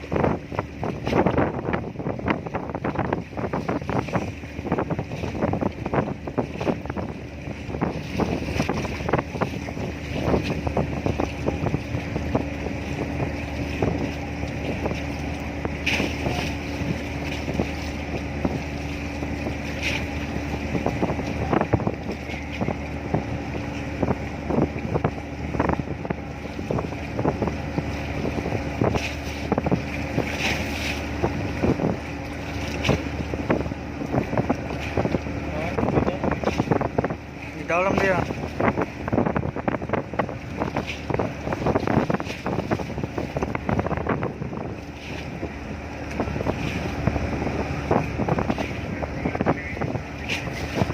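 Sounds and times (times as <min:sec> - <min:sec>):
ship engine humming: 0:00.0 - 0:50.9
wind buffeting microphone: 0:00.0 - 0:50.9.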